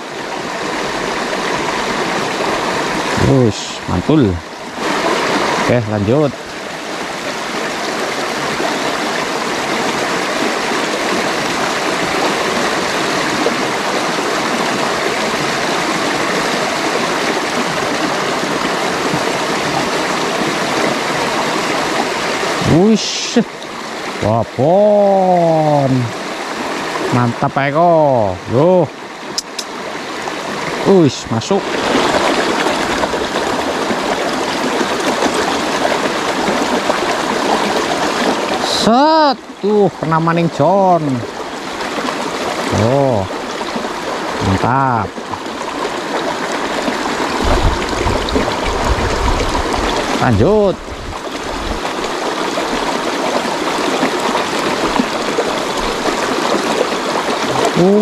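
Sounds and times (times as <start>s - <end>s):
water rushing over stones: 0.0s - 58.0s.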